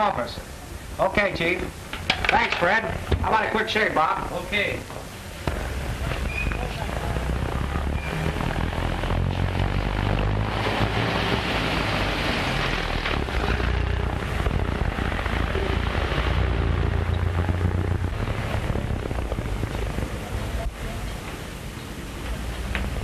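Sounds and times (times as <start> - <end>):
rushing noise: 0.0 - 23.0
car engines in traffic: 4.4 - 23.0.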